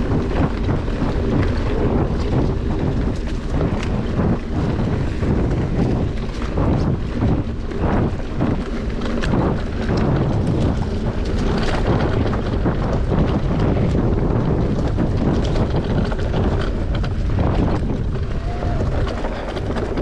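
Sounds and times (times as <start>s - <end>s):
bike knocks and rattles: 0.0s - 20.0s
wind on camera microphone: 0.0s - 20.0s.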